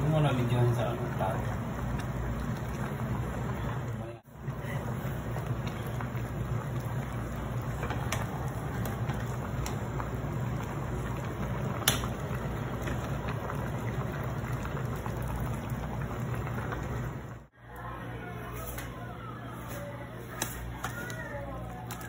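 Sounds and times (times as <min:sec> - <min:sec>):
soup boiling and bubbling: 0:00.0 - 0:18.6.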